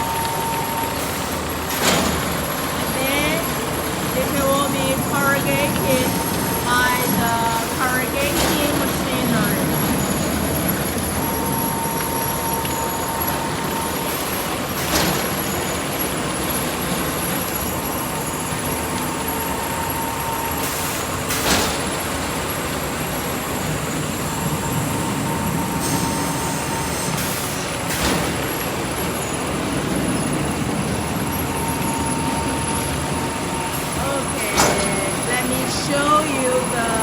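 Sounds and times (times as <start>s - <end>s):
machinery running: 0.0s - 37.0s.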